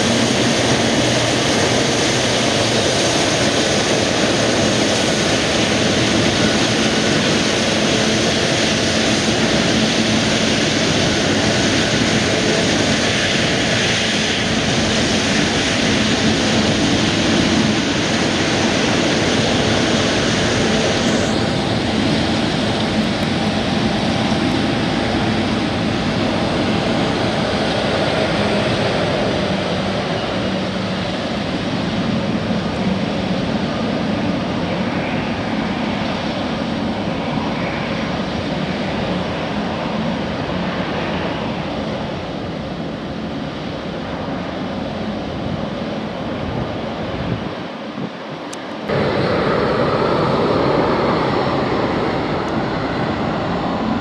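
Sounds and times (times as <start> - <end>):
faint high engine whine: 0.0 - 54.0
jet airliner engines rushing: 0.0 - 54.0.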